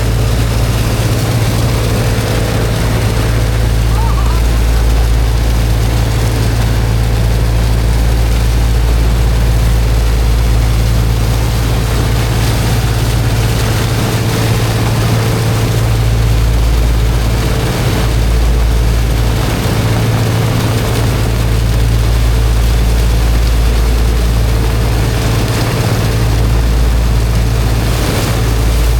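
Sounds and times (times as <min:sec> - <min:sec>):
engine driving water pump: 0:00.0 - 0:28.9.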